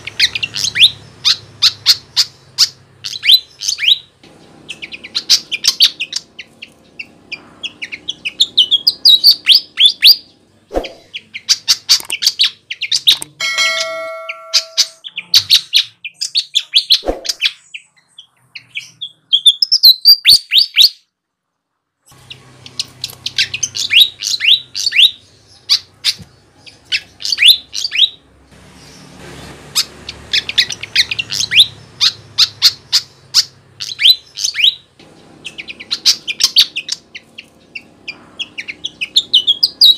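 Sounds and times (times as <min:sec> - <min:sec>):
bird singing high chirps: 0:00.0 - 0:21.1, 0:22.1 - 0:29.1, 0:29.8 - 0:39.9.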